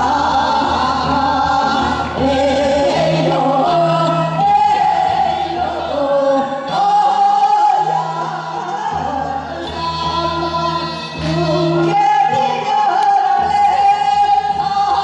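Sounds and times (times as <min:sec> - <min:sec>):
instrumental accompaniment: 0:00.0 - 0:15.0
two women singing: 0:00.0 - 0:15.0.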